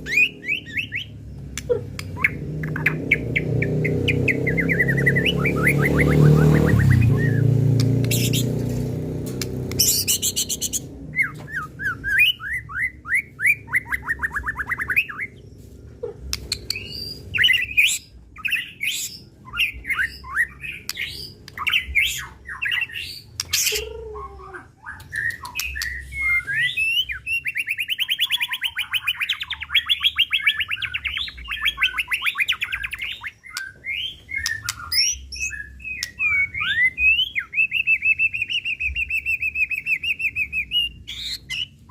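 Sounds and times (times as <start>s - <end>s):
bird singing trills and whistles: 0.0s - 8.6s, 9.4s - 15.6s, 16.3s - 41.9s.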